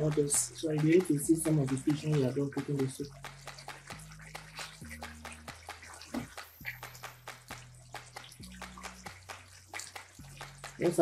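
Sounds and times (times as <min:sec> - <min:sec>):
thick soup simmering and popping: 0:00.0 - 0:11.0.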